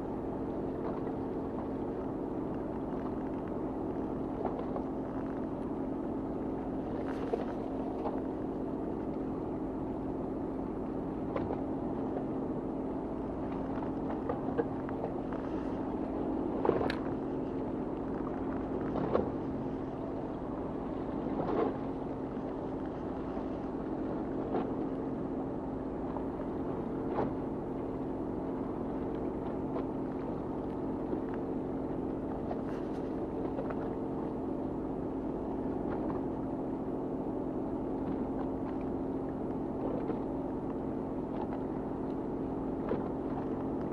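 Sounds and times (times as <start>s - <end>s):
boat engine humming: 0.0s - 43.9s.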